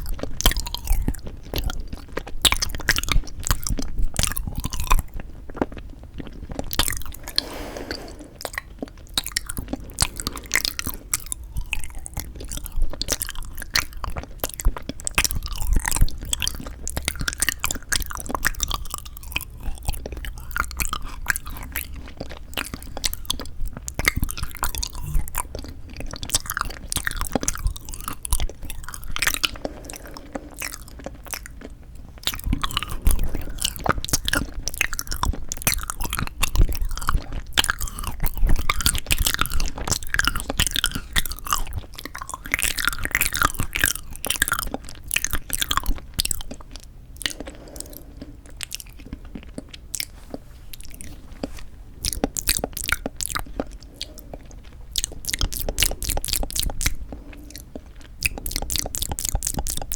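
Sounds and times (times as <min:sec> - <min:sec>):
chewing and biting jelly: 0:00.0 - 0:59.9.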